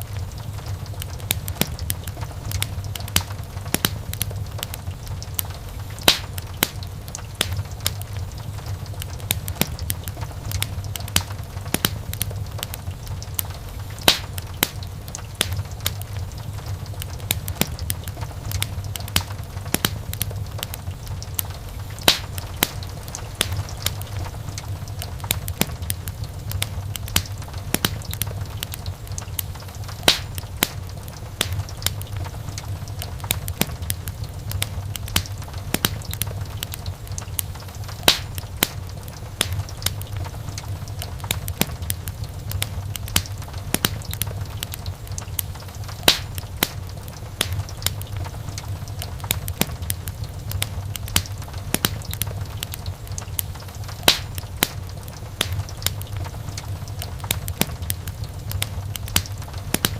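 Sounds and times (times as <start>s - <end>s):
burning logs snapping and popping: 0.0s - 59.9s
low rumble of flames: 0.0s - 59.9s.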